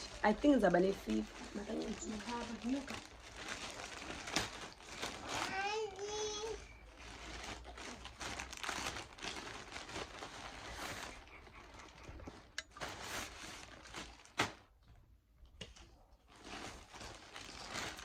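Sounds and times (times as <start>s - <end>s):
plastic packaging crinkling: 0.0s - 14.8s, 15.7s - 18.0s.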